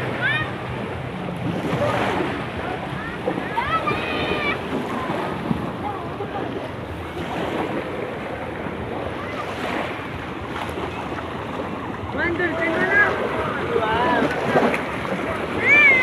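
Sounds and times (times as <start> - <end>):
sea water splashing: 0.0 - 16.0.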